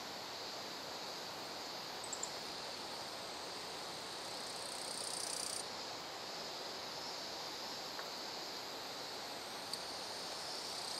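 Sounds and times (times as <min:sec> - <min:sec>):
high-pitched insect chorus: 0:00.0 - 0:10.9
soft background hiss: 0:00.0 - 0:10.9.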